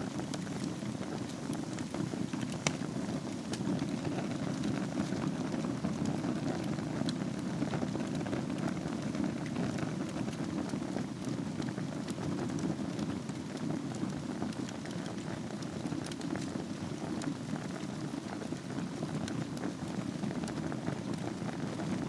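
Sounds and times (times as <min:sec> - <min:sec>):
fire crackles and pops: 0:00.0 - 0:22.0
fire rumbling: 0:00.0 - 0:22.0.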